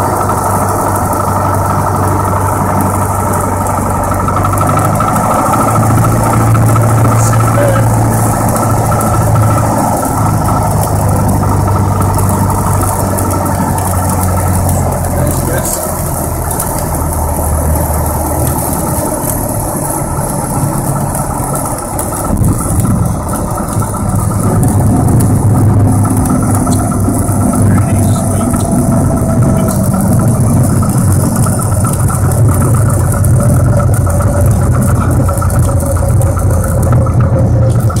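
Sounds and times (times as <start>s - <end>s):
aircraft piston engine and propeller: 0.0s - 38.0s.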